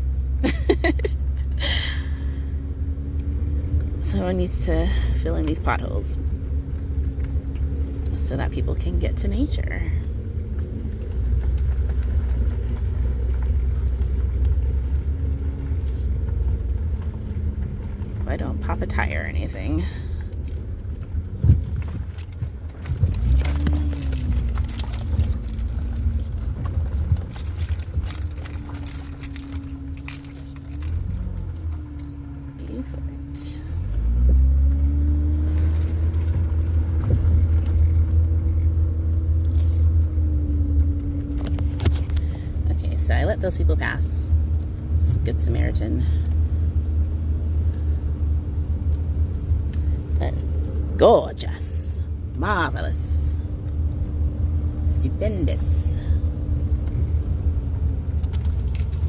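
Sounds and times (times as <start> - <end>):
body and suspension rattles: 0.0 - 59.0
low cabin rumble: 0.0 - 59.0.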